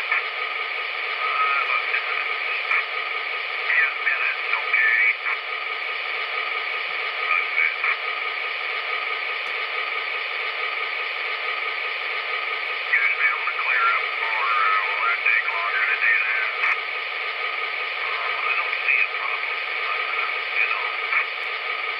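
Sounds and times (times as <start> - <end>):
distorted radio speech: 0.0 - 0.4, 1.0 - 9.0, 12.3 - 21.9
radio hiss and crackle: 0.0 - 21.9.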